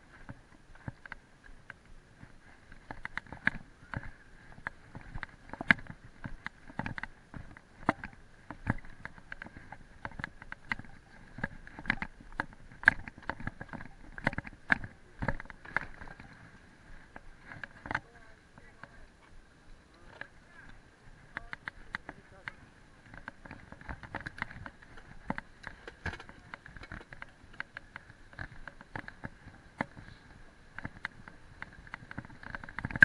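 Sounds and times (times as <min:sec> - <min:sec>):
mountain bike rattling and knocking: 0:00.0 - 0:19.0, 0:21.3 - 0:33.0.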